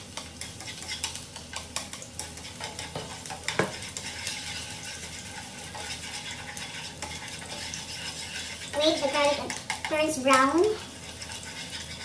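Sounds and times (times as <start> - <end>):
chopsticks tapping and scraping pan: 0.0 - 12.0
garlic sizzling in oil: 0.0 - 12.0.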